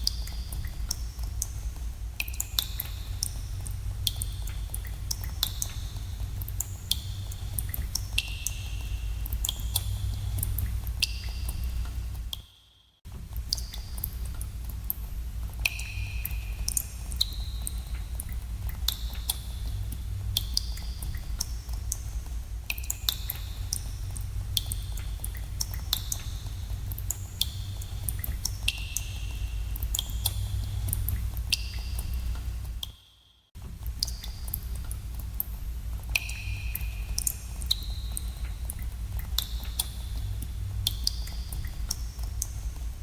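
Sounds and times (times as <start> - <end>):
steady low rumble: 0.0 - 12.4, 13.1 - 32.8, 33.6 - 43.0
water drops plinking in cave: 0.0 - 43.0.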